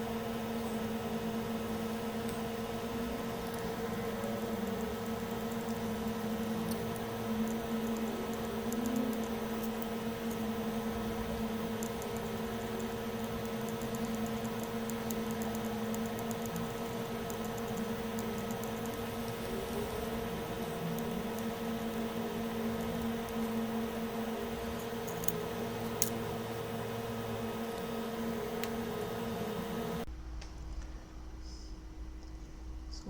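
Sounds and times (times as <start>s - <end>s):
machine hum with low tones: 0.0s - 33.0s.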